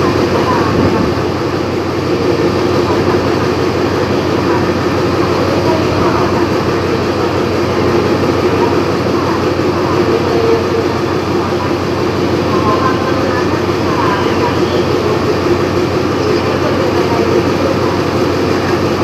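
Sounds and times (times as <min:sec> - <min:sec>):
locomotive engine idling: 0:00.0 - 0:19.0.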